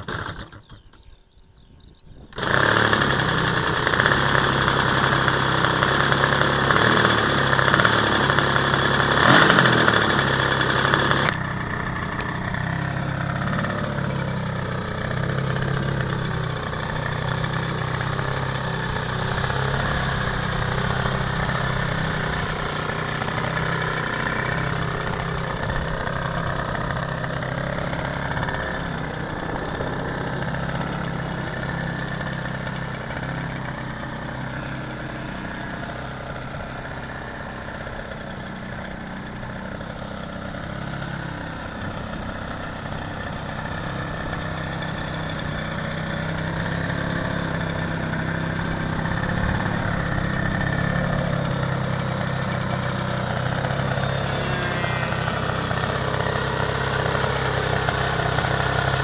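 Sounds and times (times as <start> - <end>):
two-stroke model plane engine running: 0.0 - 1.0, 2.0 - 59.0.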